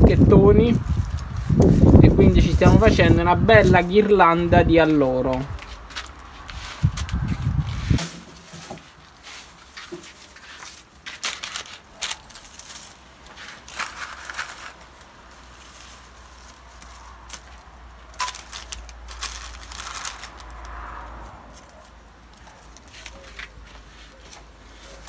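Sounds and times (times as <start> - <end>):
rustling and crinkling: 0.0 - 25.0.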